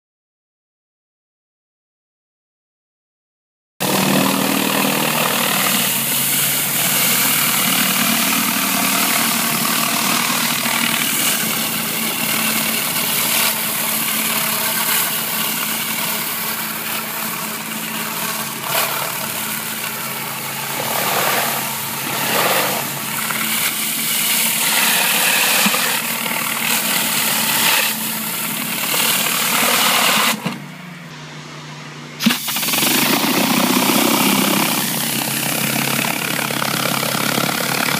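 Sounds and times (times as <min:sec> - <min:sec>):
high-pressure water hissing: 0:03.8 - 0:30.5, 0:32.2 - 0:36.8
pressure washer engine drone: 0:03.8 - 0:37.9.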